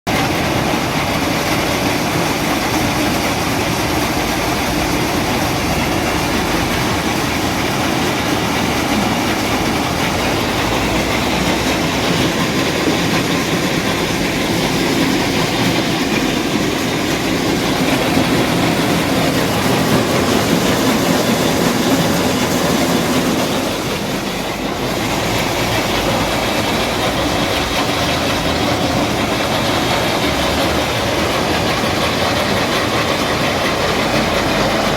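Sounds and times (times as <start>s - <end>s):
thresher rattling and clattering: 0.1s - 34.9s.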